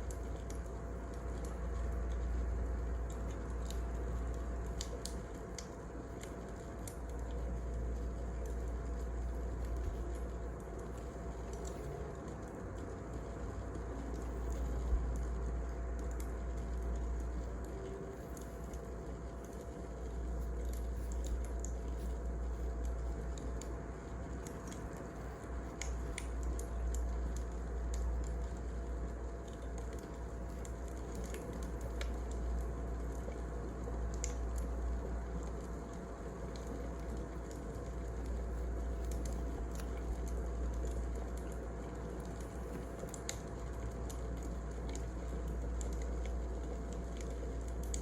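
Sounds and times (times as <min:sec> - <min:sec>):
faint hum: 0:00.0 - 0:48.0
wood fire crackling: 0:00.0 - 0:48.0.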